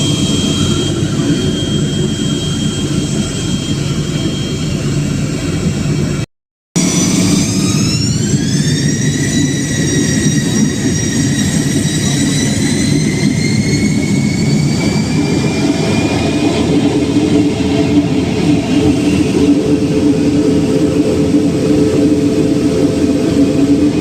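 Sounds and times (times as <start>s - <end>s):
jet engine whine: 0.0s - 24.0s.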